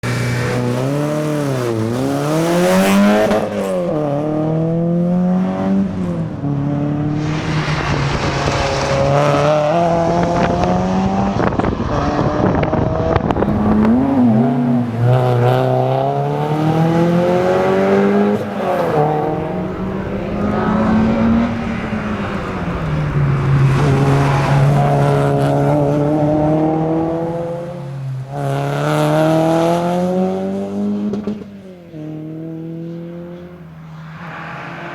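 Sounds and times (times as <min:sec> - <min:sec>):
car engine revving hard: 0:00.0 - 0:31.4.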